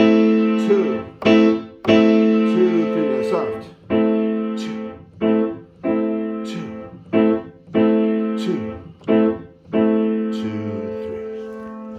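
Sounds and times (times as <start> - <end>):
piano minor chords: 0.0 - 11.9.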